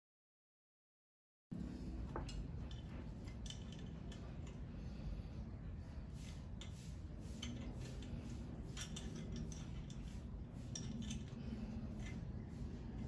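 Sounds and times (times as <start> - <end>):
low steady rumble: 1.5 - 13.0.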